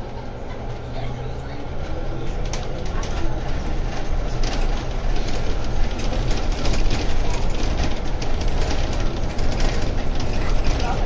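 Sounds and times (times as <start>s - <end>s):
bus and traffic rumble: 0.0s - 11.0s.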